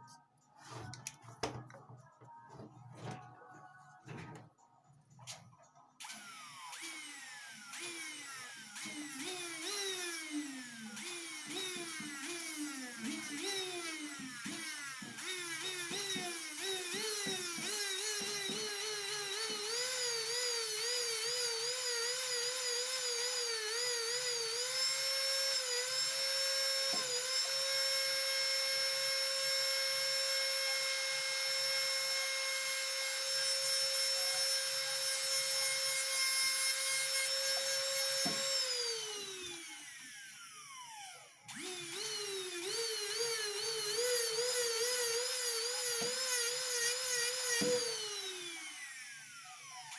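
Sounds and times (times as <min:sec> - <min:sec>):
rotary tool whining: 0:06.0 - 0:49.9.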